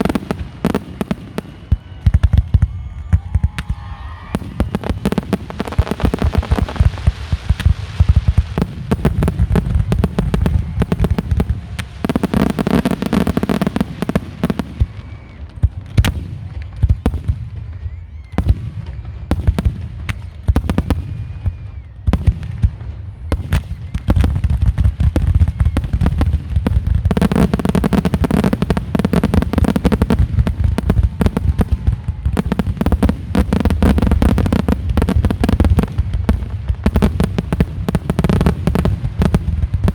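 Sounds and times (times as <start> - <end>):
fireworks bursts and bangs: 0.0 - 39.9.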